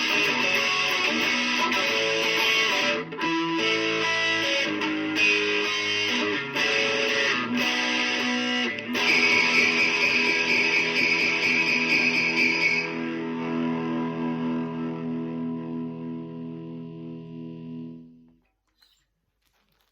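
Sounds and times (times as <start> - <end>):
guitars playing pop-rock: 0.0 - 18.3.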